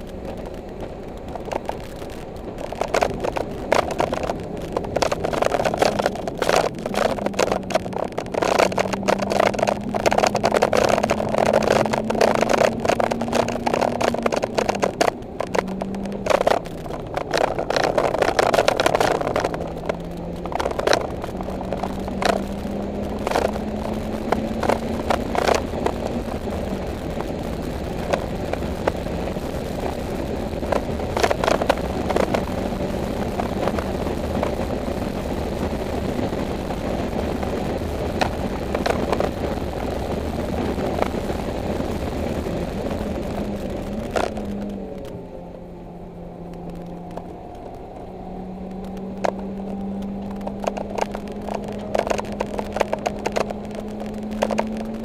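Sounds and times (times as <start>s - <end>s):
sharp clicks and knocks: 0.0s - 45.3s, 46.2s - 55.0s
car engine revving: 0.0s - 55.0s.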